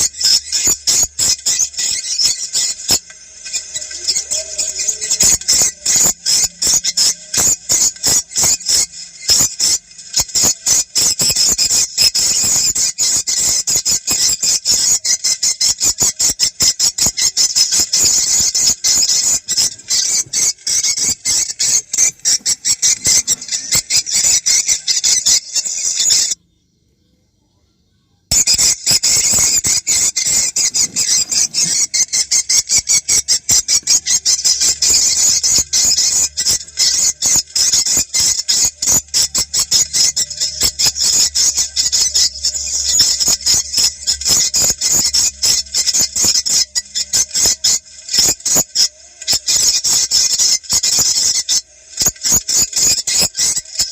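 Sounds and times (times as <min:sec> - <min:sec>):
swiftlets chirping and twittering: 0:00.0 - 0:26.4, 0:28.3 - 0:53.9.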